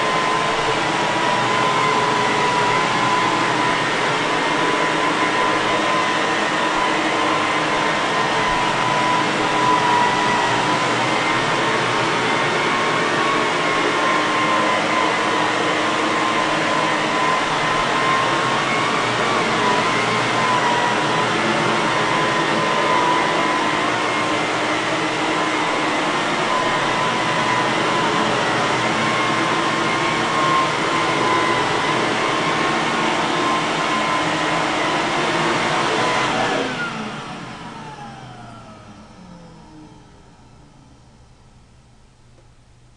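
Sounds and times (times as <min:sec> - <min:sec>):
vacuum motor winding down: 0:00.0 - 0:41.6
vacuum cleaner running: 0:00.0 - 0:42.9.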